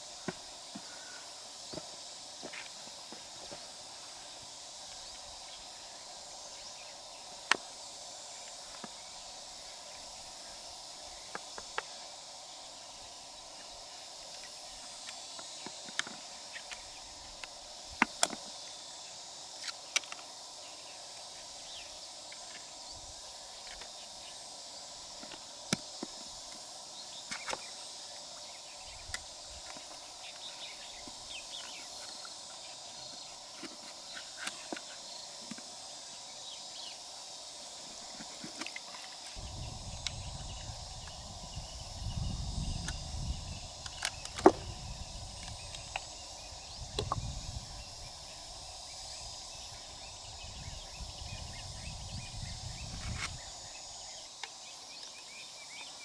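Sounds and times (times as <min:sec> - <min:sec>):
outdoor background hiss: 0:00.0 - 0:56.0.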